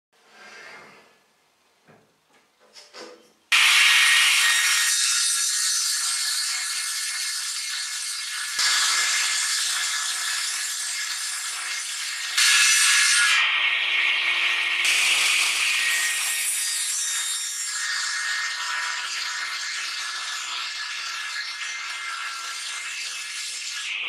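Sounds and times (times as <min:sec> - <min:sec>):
table saw cutting hardwood: 0:03.5 - 0:24.0.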